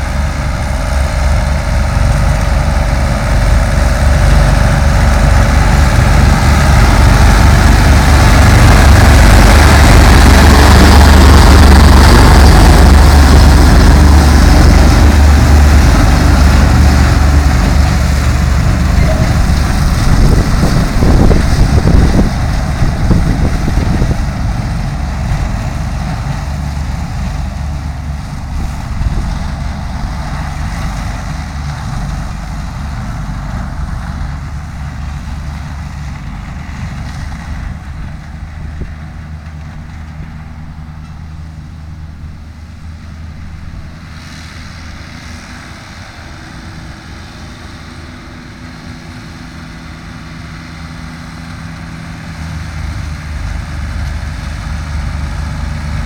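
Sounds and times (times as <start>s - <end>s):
forage harvester cutting grass: 0.0s - 56.0s
tractor engine under load: 0.0s - 56.0s.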